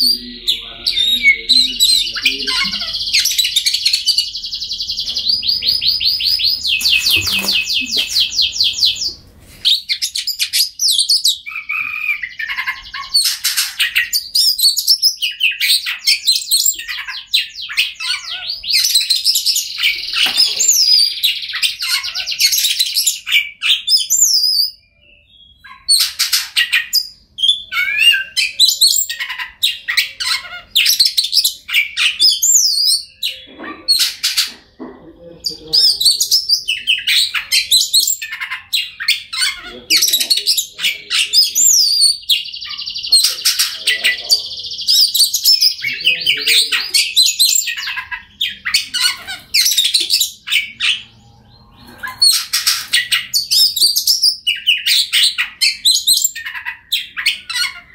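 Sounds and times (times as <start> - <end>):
bird singing trills and whistles: 0.0 - 34.6, 35.2 - 57.9.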